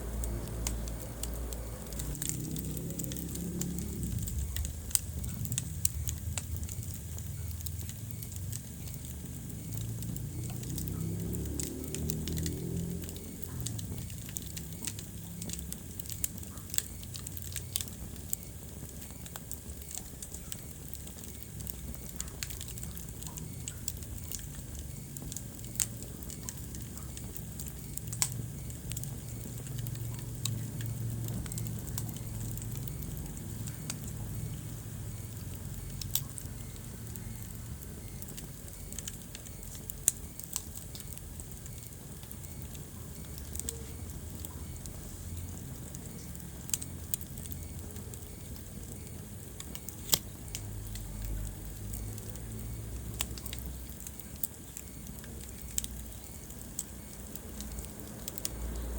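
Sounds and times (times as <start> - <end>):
fire crackling in fireplace: 0.0 - 58.9.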